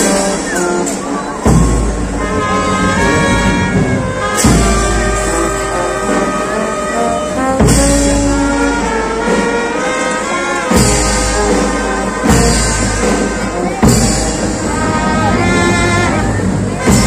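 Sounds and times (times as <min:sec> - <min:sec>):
brass band funeral march: 0:00.0 - 0:17.0.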